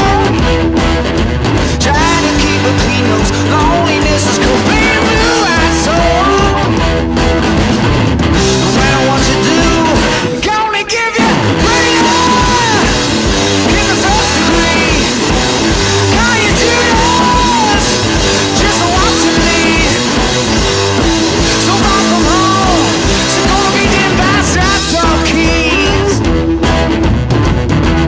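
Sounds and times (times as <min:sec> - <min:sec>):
rock song with vocals: 0:00.0 - 0:28.0.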